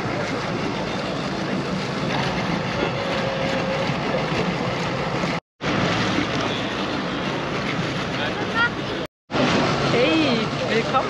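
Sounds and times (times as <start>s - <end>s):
outboard motor running: 0.0s - 11.0s
propeller churning water: 0.0s - 11.0s.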